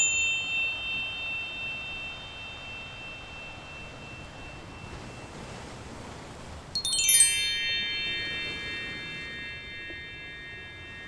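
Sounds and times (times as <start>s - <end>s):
bell-like chime tones: 0.0s - 5.9s, 6.8s - 11.0s
faint steady hiss: 0.0s - 11.0s.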